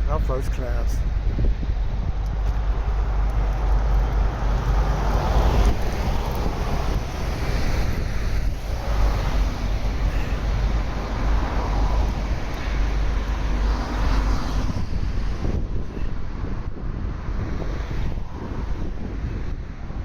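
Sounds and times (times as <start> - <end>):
road traffic: 0.0 - 20.0
vehicles passing: 0.0 - 20.0
wind buffeting microphone: 0.0 - 20.0.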